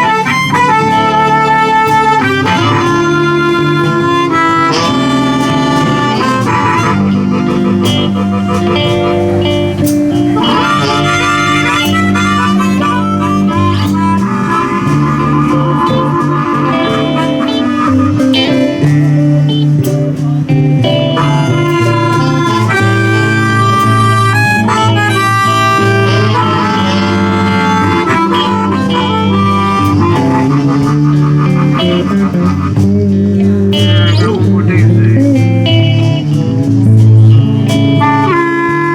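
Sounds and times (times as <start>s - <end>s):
blues harmonica: 0.0s - 38.9s
live blues band: 0.0s - 38.9s.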